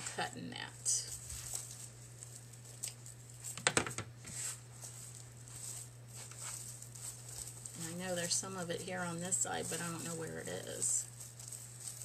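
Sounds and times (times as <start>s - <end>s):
low steady hum: 0.0s - 12.0s
raffia rustling: 0.0s - 12.0s.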